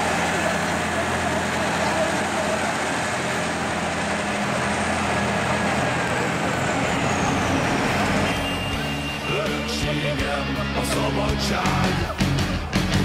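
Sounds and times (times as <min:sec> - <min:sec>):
tractor diesel engines droning: 0:00.0 - 0:13.0.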